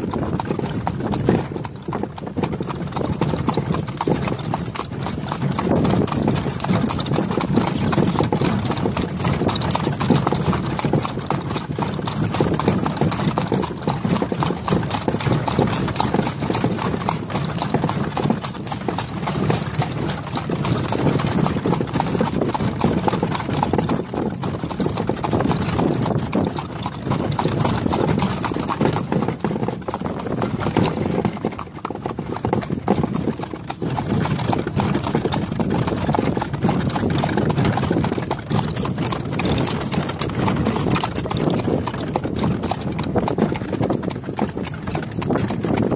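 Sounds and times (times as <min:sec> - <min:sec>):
cart wheels rumbling: 0:00.0 - 0:45.9
hooves clip-clopping on pavement: 0:00.0 - 0:45.9.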